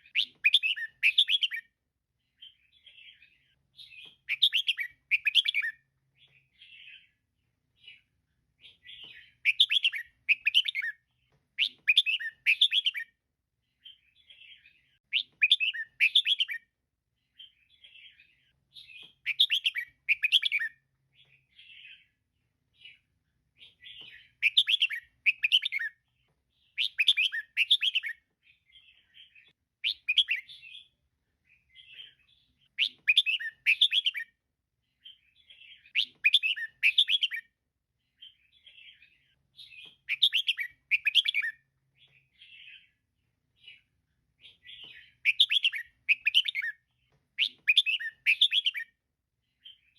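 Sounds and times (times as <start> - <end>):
bird chirping phrases: 0.0 - 49.9
soft bird chatter: 0.0 - 49.9.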